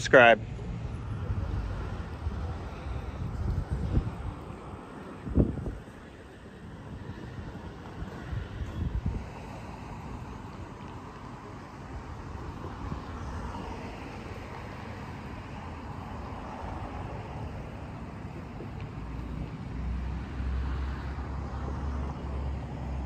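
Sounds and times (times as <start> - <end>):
distant traffic hiss: 0.0 - 23.0.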